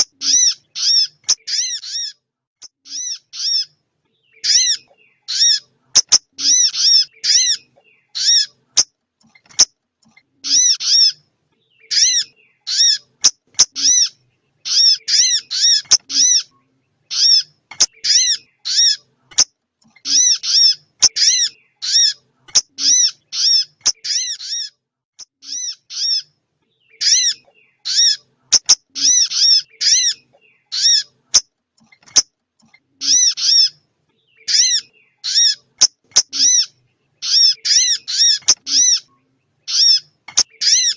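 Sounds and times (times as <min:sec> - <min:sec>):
recorded bird chirps: 0:00.0 - 0:40.9.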